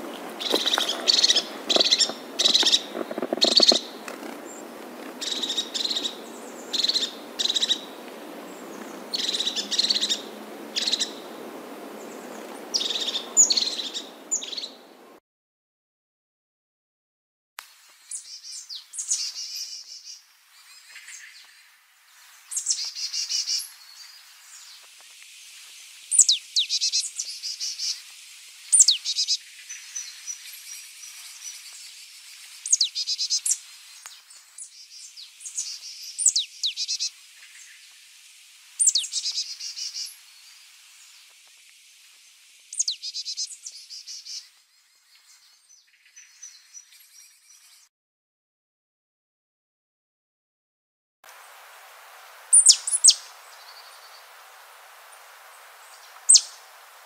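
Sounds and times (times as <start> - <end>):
songbird singing: 0.0 - 15.2, 17.8 - 47.9, 52.2 - 57.0.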